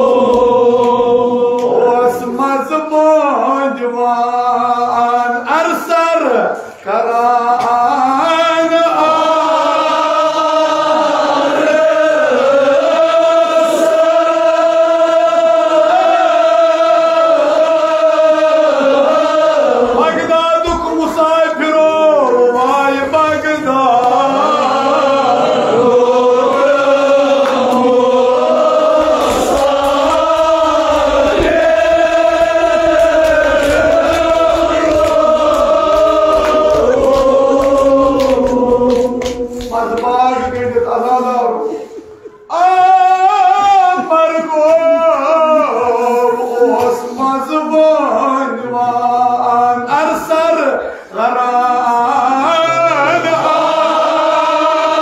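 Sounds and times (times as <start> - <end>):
man chanting into microphone: 0.0 - 10.7, 16.6 - 55.0.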